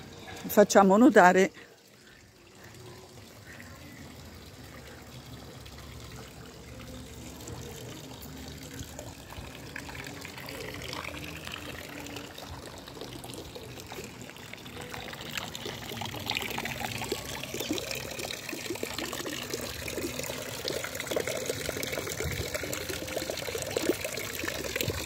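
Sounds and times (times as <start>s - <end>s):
fountain water pouring into basin: 0.0s - 25.0s
small water splashes: 0.0s - 25.0s.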